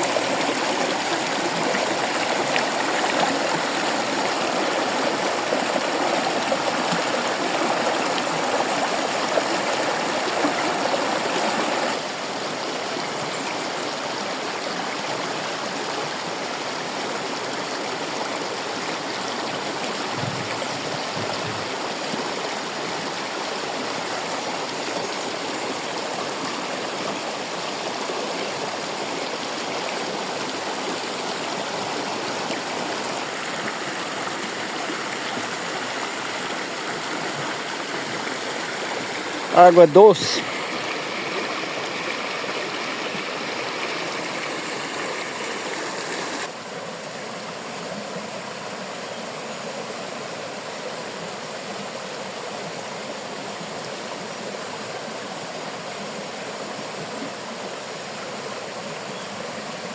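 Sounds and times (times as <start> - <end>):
stream running and splashing: 0.0 - 59.9.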